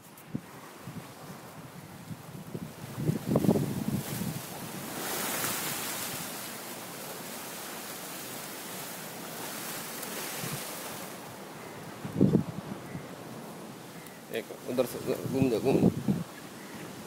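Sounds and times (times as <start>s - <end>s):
choppy sea water: 0.0s - 17.0s
wind: 0.0s - 17.0s.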